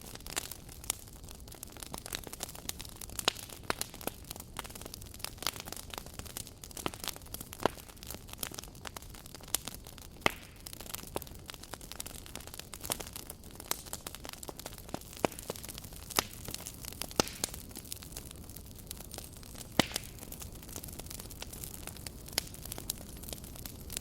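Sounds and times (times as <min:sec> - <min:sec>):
wood crackling and popping: 0:00.0 - 0:24.0.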